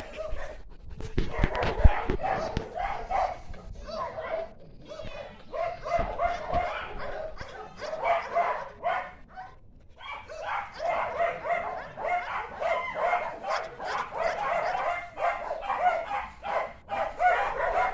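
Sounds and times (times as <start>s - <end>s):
dog barking: 0.0s - 0.6s, 1.2s - 17.9s.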